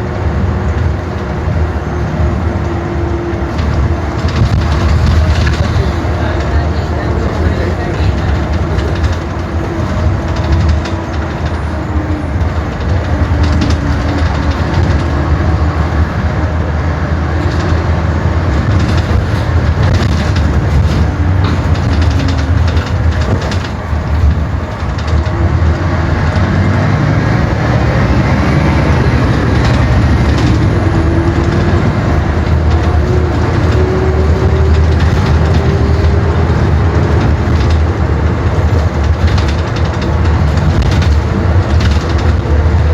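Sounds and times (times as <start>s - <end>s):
bus diesel engine rumbling: 0.0s - 42.9s
rattles: 3.4s - 16.4s, 17.2s - 26.8s, 29.1s - 42.9s.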